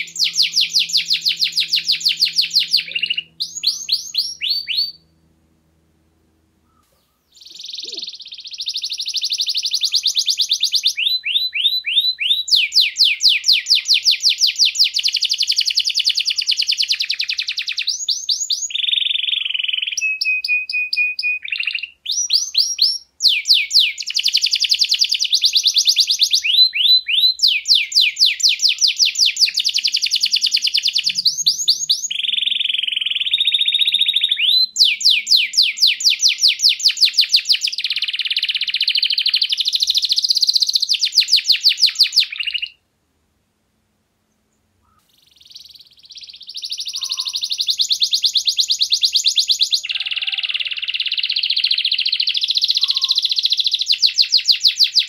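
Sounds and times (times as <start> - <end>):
canary singing: 0.0 - 5.4, 6.6 - 42.8, 44.8 - 55.0.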